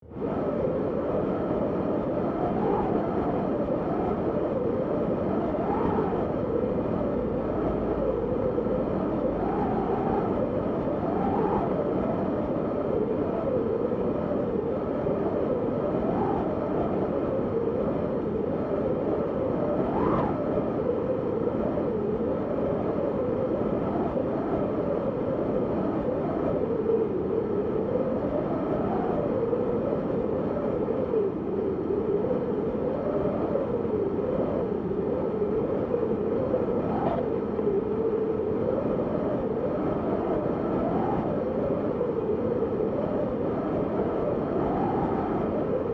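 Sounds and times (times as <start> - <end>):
wind howling: 0.0 - 45.9.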